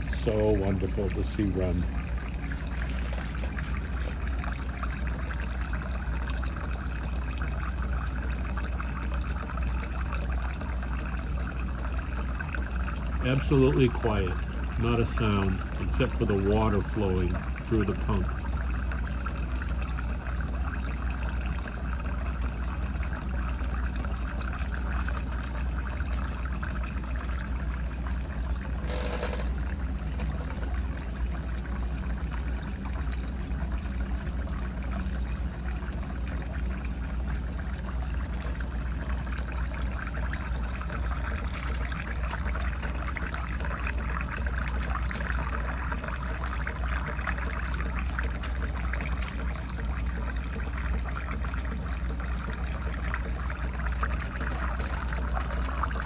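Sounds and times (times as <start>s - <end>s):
water trickling into tin can: 0.0s - 56.0s.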